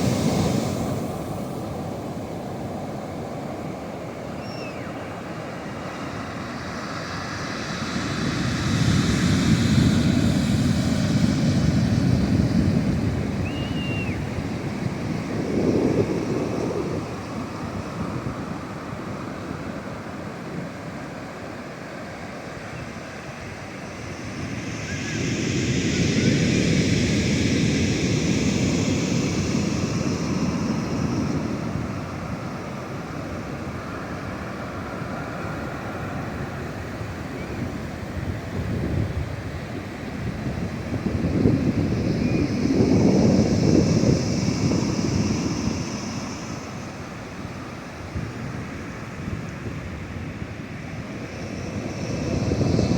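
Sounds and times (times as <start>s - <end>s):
ocean waves washing ashore: 0.0s - 52.9s.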